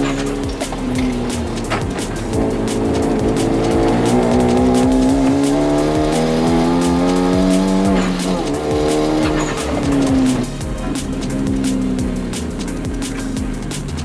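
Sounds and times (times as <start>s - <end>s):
background music: 0.0s - 14.0s
car engine revving hard: 0.0s - 14.0s.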